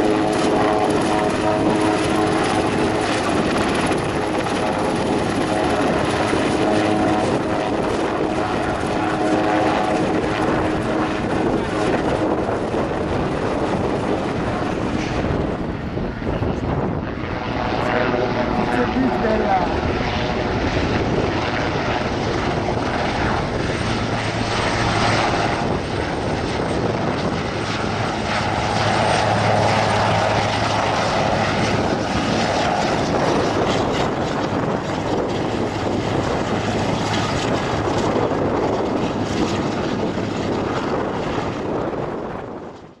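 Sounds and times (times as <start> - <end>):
helicopter flying low: 0.0 - 43.0.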